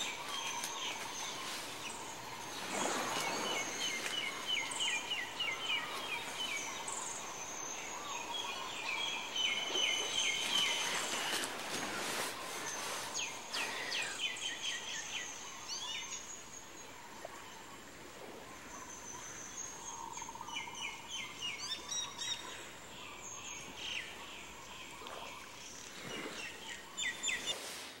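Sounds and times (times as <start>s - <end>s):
small birds chirping: 0.0s - 17.9s, 18.7s - 28.0s
faint background hiss: 0.0s - 28.0s.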